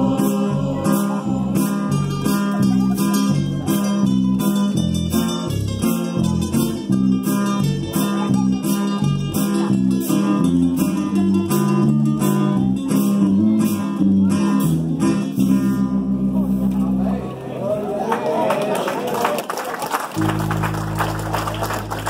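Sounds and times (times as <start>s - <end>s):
acoustic guitar strumming: 0.0s - 17.0s, 20.2s - 22.0s.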